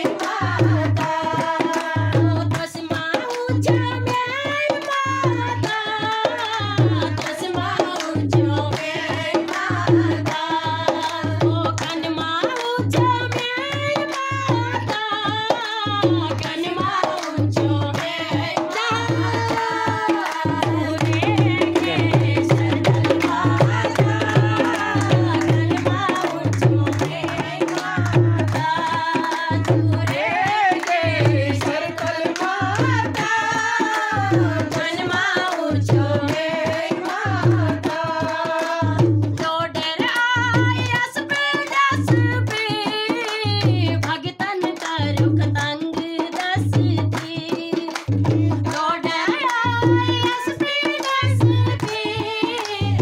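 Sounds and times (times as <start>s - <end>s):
hand clapping: 0.0s - 53.0s
hand drums: 0.0s - 53.0s
women singing devotional song: 0.0s - 53.0s.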